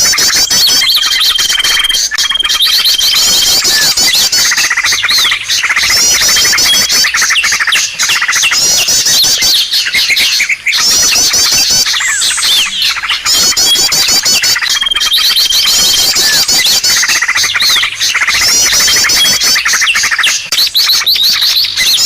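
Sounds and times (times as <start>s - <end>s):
small birds chirping and trilling: 0.0s - 22.0s.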